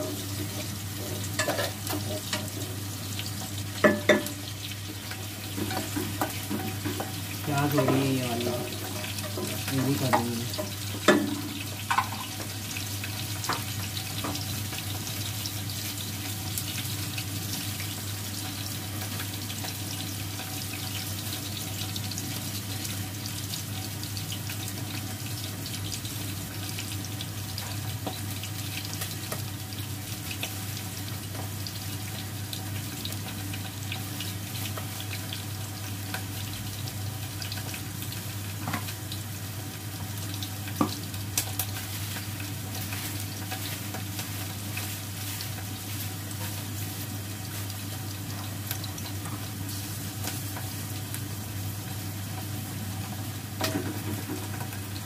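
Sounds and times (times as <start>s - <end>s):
onions sizzling in oil: 0.0s - 55.0s.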